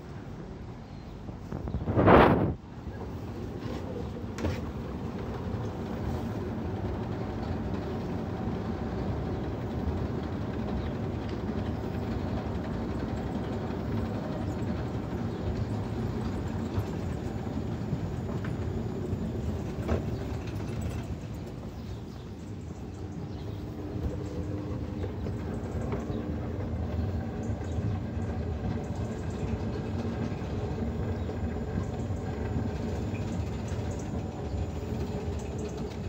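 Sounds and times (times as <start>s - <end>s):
escalator running: 3.1s - 36.0s.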